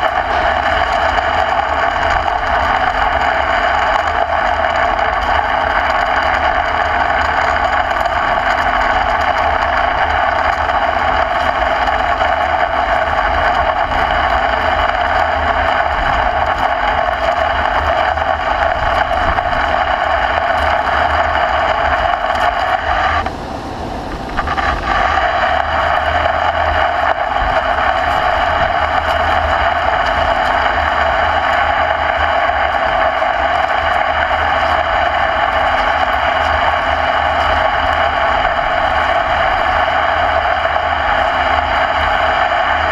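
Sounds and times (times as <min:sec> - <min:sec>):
lathe machining metal: 0:00.0 - 0:42.9
low hum of lathe drive: 0:00.0 - 0:42.9.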